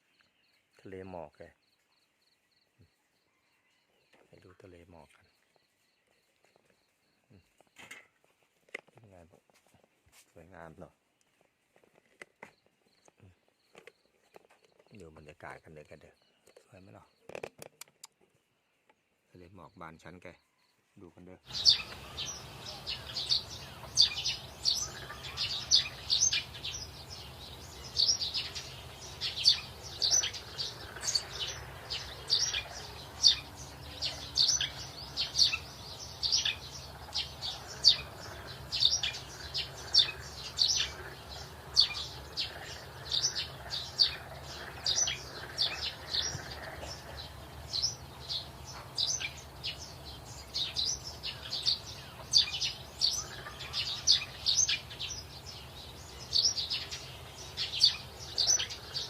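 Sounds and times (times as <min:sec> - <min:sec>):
birds chirping: 0:00.0 - 0:08.0, 0:12.4 - 0:17.5, 0:18.2 - 0:59.0.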